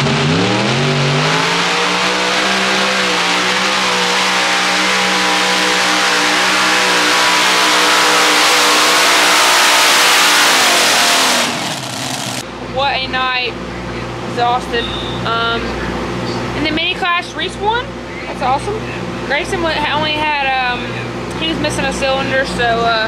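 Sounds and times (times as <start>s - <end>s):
pulling tractor engines roaring: 0.0s - 23.0s.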